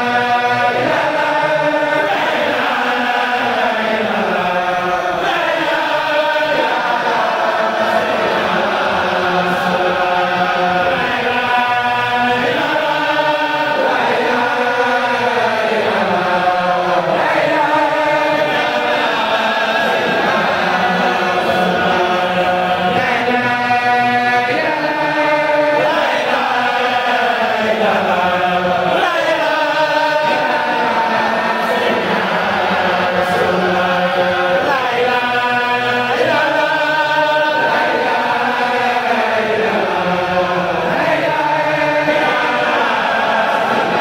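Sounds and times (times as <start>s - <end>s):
men chanting in unison: 0.0s - 44.0s.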